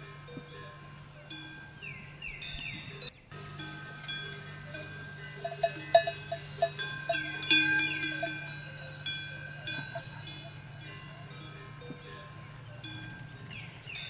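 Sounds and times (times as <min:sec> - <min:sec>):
metal bells clanking: 0:00.0 - 0:14.0
steady low hum: 0:00.0 - 0:14.0.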